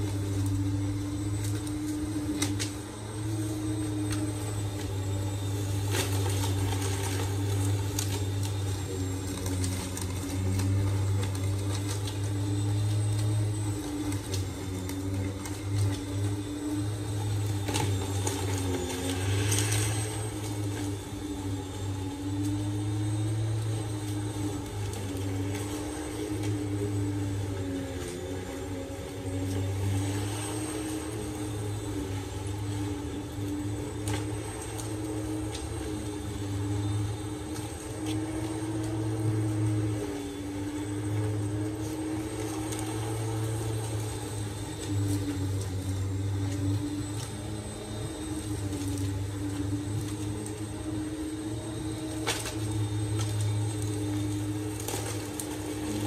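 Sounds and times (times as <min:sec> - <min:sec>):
electric lawn mower humming: 0:00.0 - 0:56.0.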